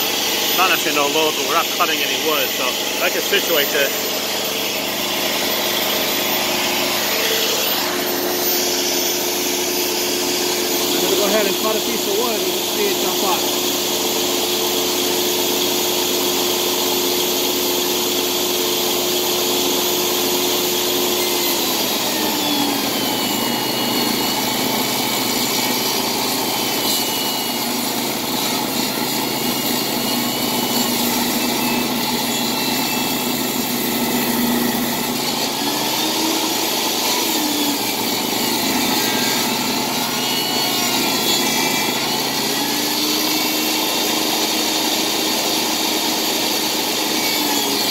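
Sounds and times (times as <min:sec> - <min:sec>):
table saw cutting wood: 0:00.0 - 0:47.9.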